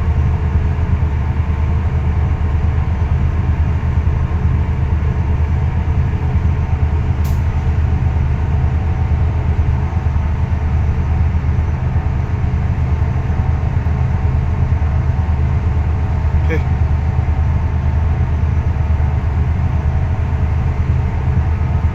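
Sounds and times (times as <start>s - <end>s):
ship engine droning: 0.0s - 21.9s.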